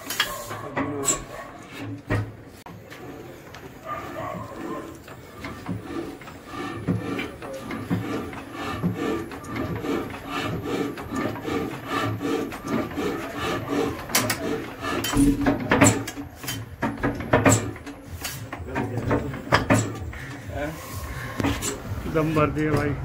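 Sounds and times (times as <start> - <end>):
crank handle clattering and rasping: 0.0 - 23.0
diesel engine being hand-cranked: 0.0 - 23.0
engine knocks: 4.3 - 23.0.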